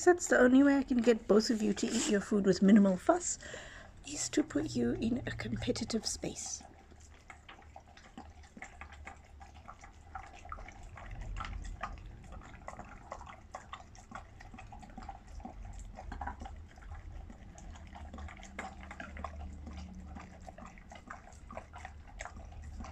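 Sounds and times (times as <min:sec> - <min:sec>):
pets chewing and licking: 0:00.1 - 0:22.9.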